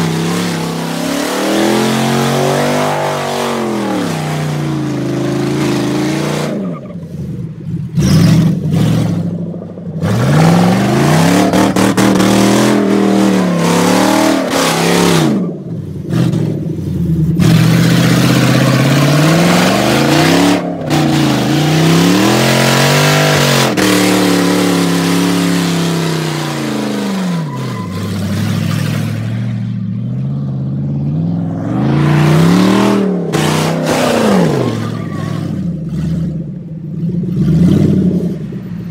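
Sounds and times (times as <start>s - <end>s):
engine revving: 0.0s - 38.6s.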